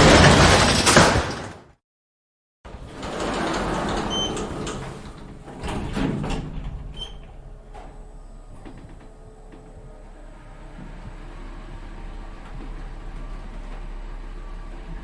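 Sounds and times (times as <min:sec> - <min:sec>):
elevator doors sliding: 0:00.0 - 0:01.6, 0:02.7 - 0:15.0.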